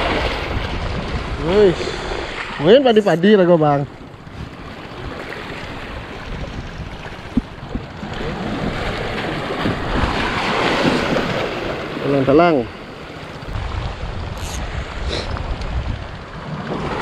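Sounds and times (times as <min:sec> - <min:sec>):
sea waves breaking on rocks: 0:00.0 - 0:17.0.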